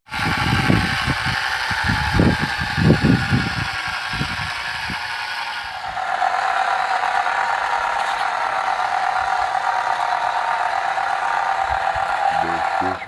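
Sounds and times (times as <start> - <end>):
small motors whining: 0.0 - 13.0.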